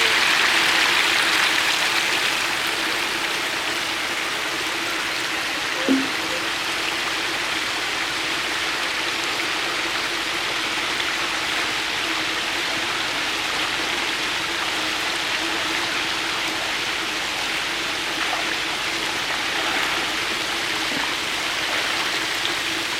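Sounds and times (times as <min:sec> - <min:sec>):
water rushing and splashing: 0:00.0 - 0:22.9.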